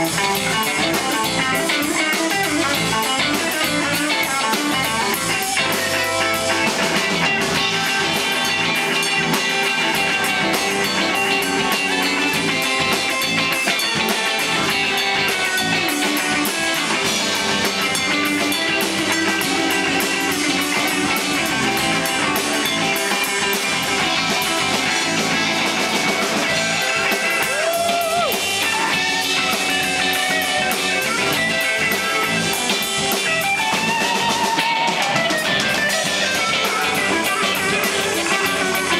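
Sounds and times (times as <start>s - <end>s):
electric guitar lead line: 0.0s - 38.9s
live rock band playing: 0.0s - 38.9s.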